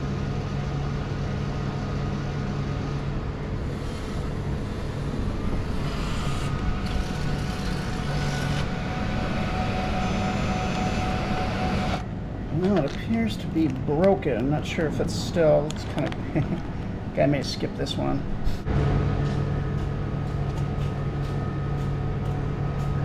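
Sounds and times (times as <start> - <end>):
vending machine humming: 0.0 - 23.0.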